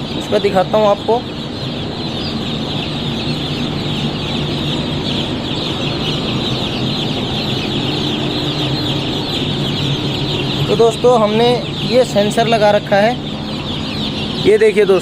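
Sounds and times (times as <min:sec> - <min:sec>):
chicks cheeping: 0:00.0 - 0:15.0
low machine hum: 0:00.0 - 0:15.0.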